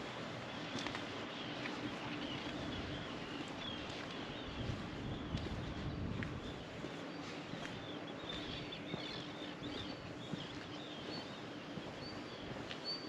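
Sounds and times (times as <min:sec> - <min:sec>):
footsteps on ground: 0:00.1 - 0:13.0
small birds twittering: 0:00.1 - 0:13.0.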